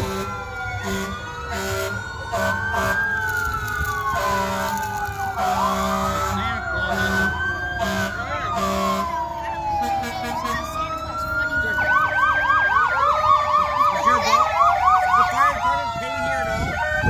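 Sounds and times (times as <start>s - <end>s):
fast yelp siren: 0.0s - 17.0s
sirens wailing: 0.0s - 17.0s.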